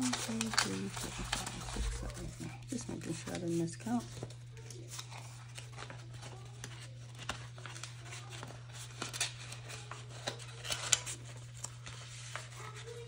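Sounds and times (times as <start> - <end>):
paper money rustling: 0.0 - 13.0.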